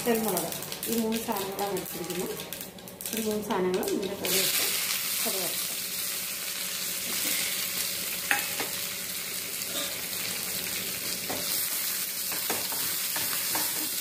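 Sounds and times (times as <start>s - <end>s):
spices sizzling in oil: 0.0s - 14.0s.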